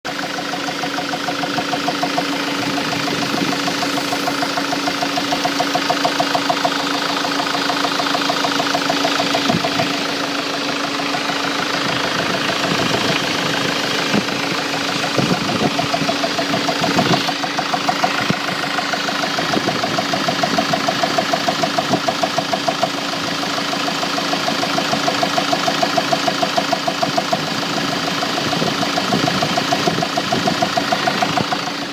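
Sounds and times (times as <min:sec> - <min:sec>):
van engine knocking: 0:00.1 - 0:31.9.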